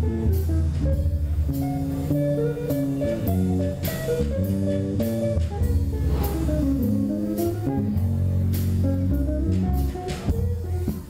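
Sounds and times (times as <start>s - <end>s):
drum kit with cymbal hits: 0.0s - 11.0s
electric bass: 0.0s - 11.0s.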